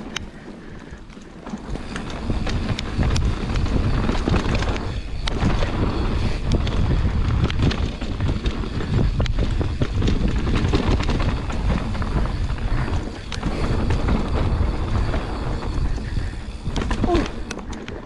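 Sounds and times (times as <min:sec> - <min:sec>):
bike rattling over bumps: 0:00.0 - 0:18.0
bike tyres rolling over dirt: 0:00.0 - 0:18.0
wind noise on microphone: 0:01.6 - 0:18.0.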